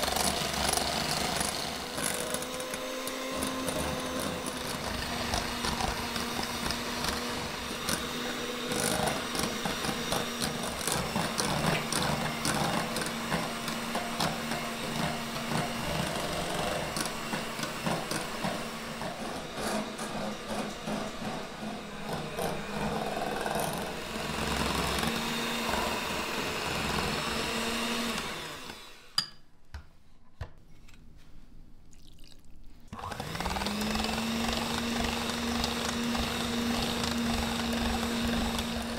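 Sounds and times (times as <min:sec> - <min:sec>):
electric hand mixer running: 0:00.0 - 0:29.2, 0:33.0 - 0:38.9.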